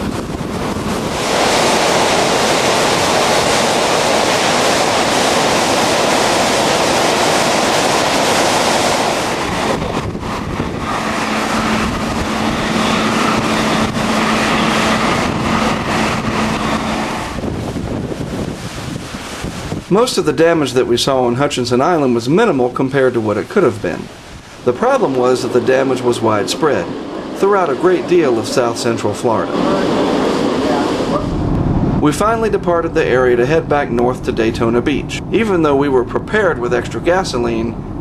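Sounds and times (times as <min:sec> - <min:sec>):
hurricane wind and rain: 0:00.0 - 0:38.0
steady low hum: 0:00.0 - 0:38.0.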